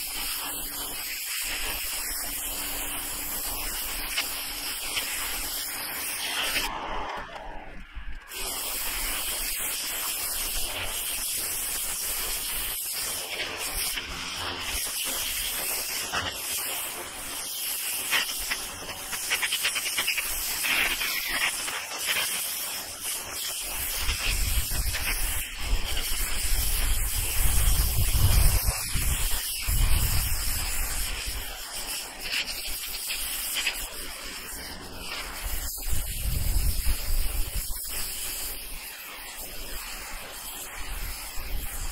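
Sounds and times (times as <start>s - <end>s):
pressure washer jet hissing: 0.0s - 41.9s.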